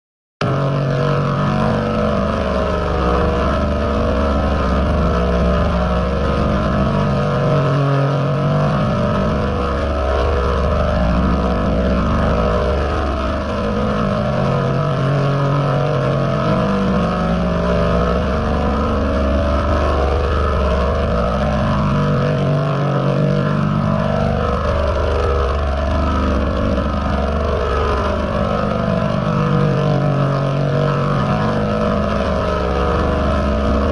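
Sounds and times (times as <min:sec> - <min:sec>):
distorted pitch-shifted droning: 0:00.4 - 0:33.9.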